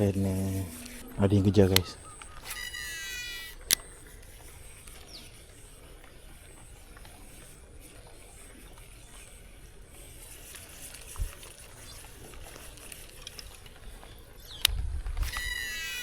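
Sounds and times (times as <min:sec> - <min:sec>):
fishing reel spool whirring: 0:00.0 - 0:16.0.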